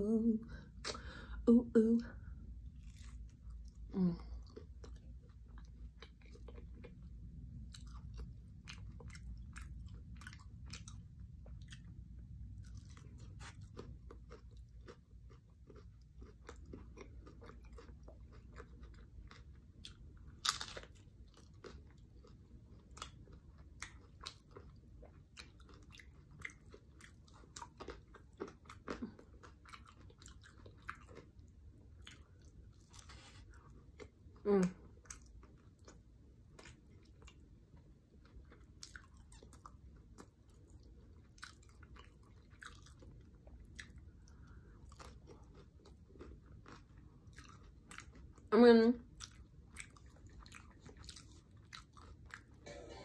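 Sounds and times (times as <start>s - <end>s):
chewing crisp tortilla: 2.2s - 52.7s.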